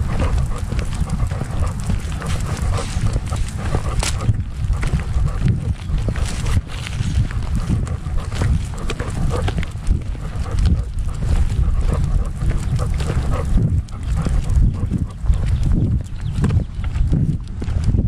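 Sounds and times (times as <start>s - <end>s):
dog panting: 0.0s - 16.7s.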